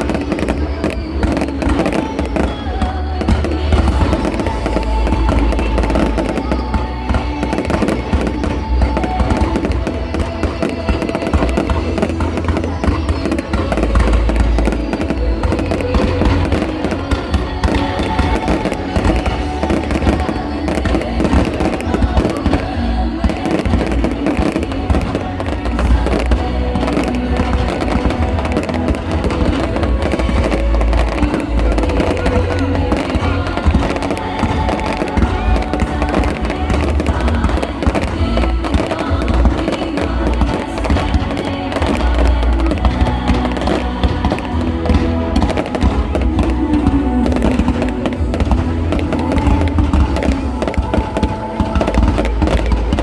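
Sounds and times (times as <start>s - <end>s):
music playing: 0.0s - 53.0s.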